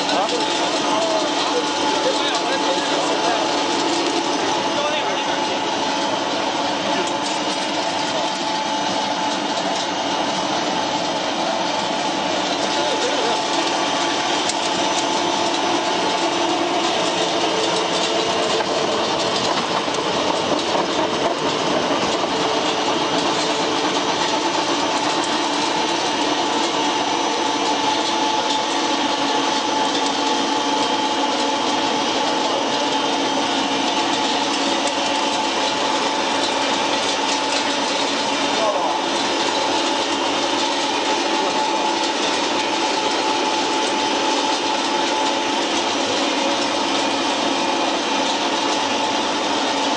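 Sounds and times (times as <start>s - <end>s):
pellet mill rattling and rumbling: 0.0s - 49.9s.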